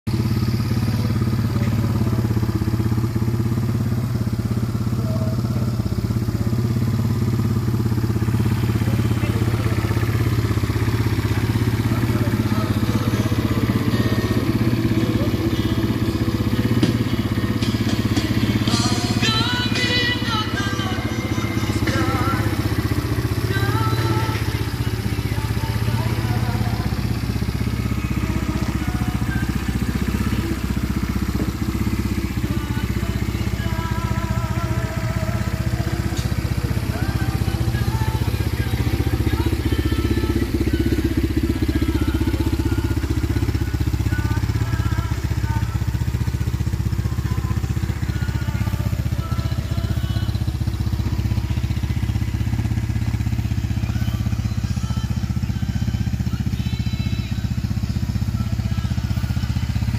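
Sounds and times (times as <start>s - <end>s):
atv engine idling: 0.0s - 59.9s.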